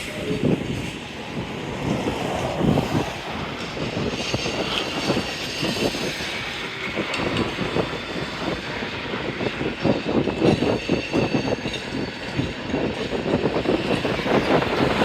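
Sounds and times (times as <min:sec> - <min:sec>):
freight train cars rolling past: 0:00.0 - 0:15.0.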